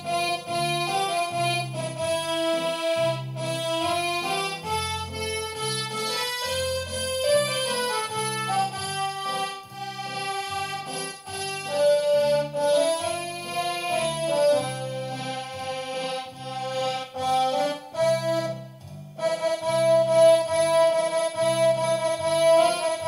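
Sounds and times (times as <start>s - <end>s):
accordion playing a song: 0.0s - 23.0s.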